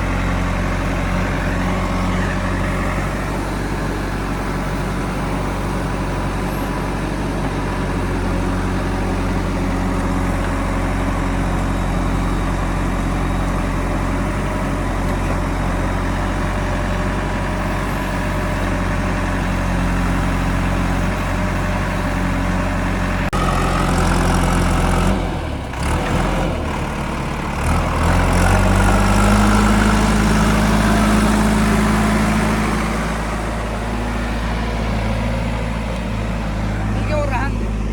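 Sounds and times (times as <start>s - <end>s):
diesel engine running and revving: 0.0s - 37.9s.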